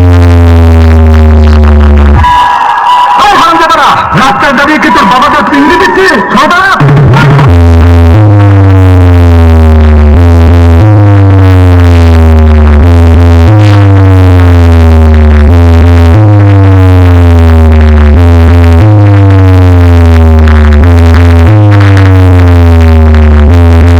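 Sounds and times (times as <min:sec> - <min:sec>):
electronic dance music: 0:00.0 - 0:23.9.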